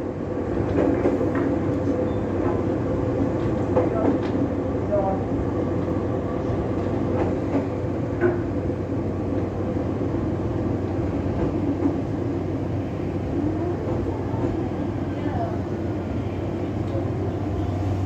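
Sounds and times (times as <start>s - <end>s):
train cabin rumble and hum: 0.0s - 18.0s.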